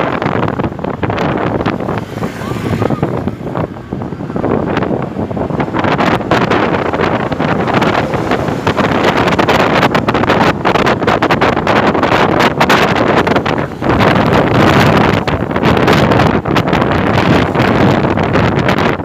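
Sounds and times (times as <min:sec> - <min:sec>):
steady low rumble: 0:00.0 - 0:18.6
wind buffeting microphone: 0:00.0 - 0:19.0.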